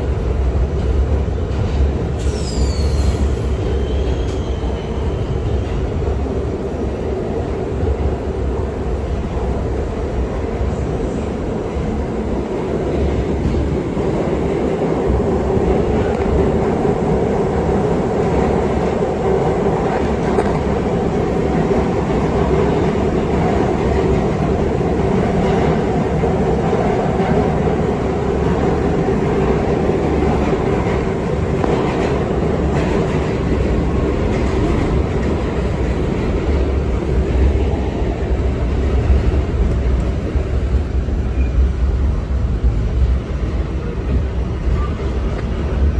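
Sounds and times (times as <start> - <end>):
subway train wheels rumbling: 0.0 - 45.9.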